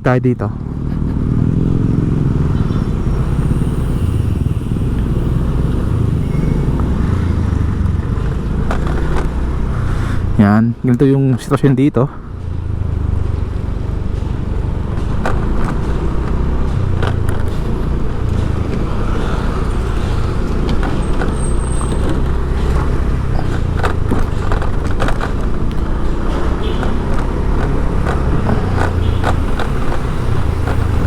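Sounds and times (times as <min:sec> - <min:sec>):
vehicle engines rumbling: 0:00.0 - 0:31.0.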